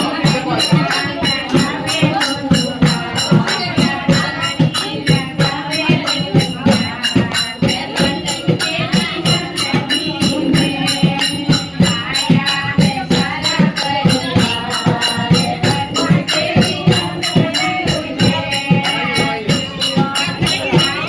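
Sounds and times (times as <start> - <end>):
folk singing: 0.0 - 21.0
jingling percussion: 0.0 - 21.0
steady drum beat: 0.0 - 21.0.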